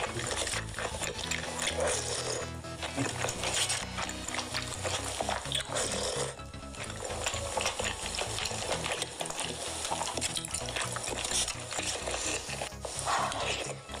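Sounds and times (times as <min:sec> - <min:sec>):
chicken torn and chewed: 0:00.0 - 0:14.0.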